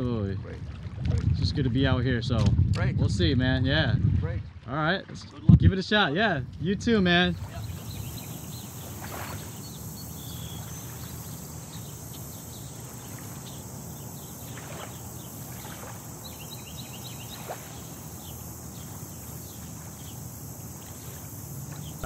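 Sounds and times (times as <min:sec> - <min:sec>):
waves lapping against boulders: 0:00.0 - 0:01.9, 0:04.2 - 0:22.0.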